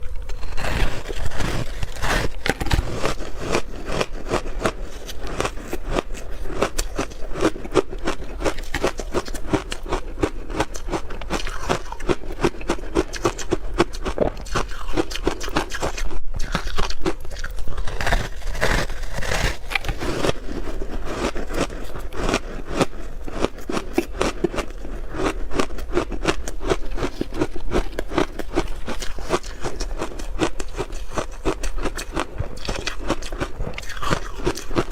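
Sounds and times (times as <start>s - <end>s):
person chewing ice: 0.0s - 34.9s.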